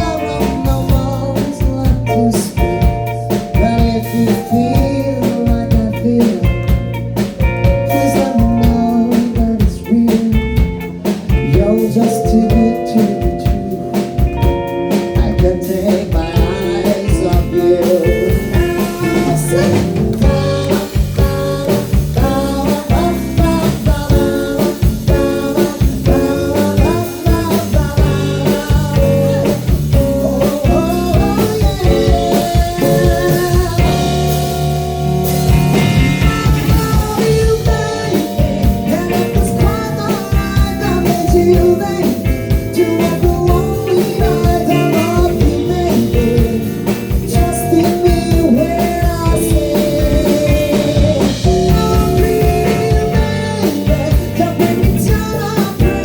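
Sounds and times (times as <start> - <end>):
live pop-rock band playing: 0.0 - 56.0.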